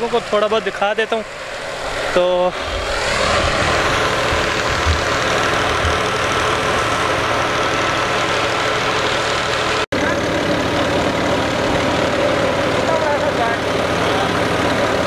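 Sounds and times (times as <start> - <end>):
thresher machine din: 0.0 - 15.0.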